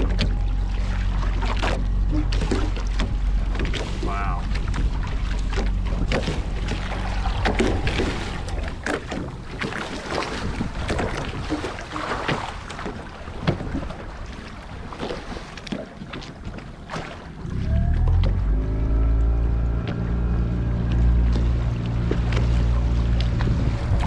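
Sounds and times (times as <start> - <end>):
water slapping against boat: 0.0 - 24.0
wind rumbling on microphone: 0.0 - 24.0.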